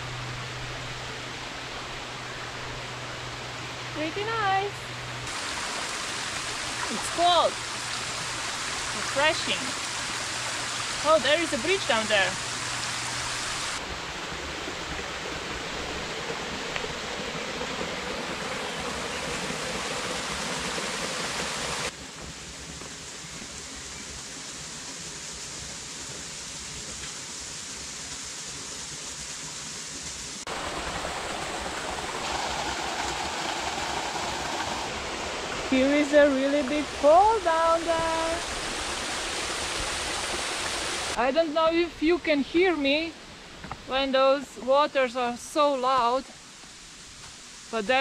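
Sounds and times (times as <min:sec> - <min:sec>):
river and waterfall rushing: 0:00.0 - 0:48.0.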